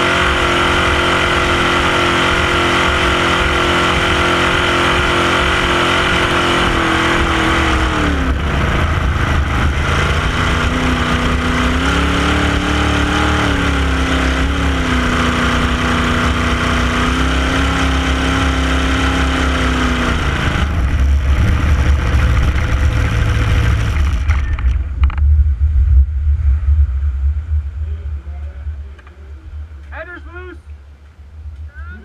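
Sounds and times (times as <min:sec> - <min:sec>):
boat engine running: 0:00.0 - 0:32.0
low rumbling and thumps: 0:05.0 - 0:32.0.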